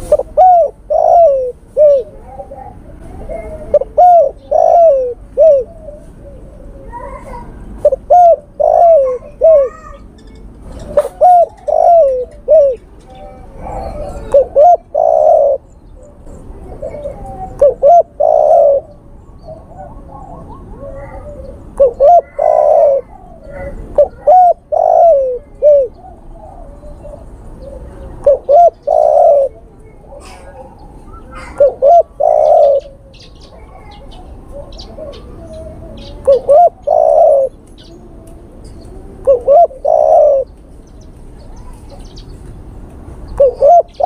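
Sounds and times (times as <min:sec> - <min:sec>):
dove cooing: 0:00.0 - 0:10.0, 0:10.7 - 0:42.4, 0:43.3 - 0:44.0.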